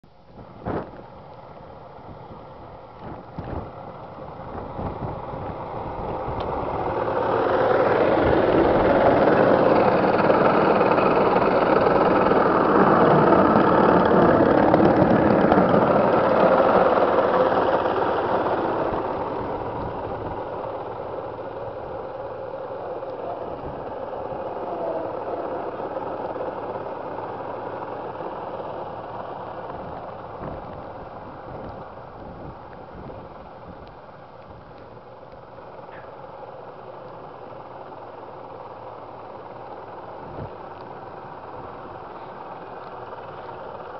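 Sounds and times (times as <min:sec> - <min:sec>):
rail truck engine running: 0:00.0 - 0:43.9.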